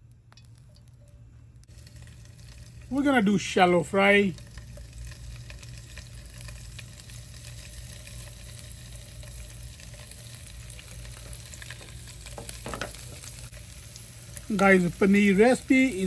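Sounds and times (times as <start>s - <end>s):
paneer sizzling in hot oil: 0.0s - 16.0s.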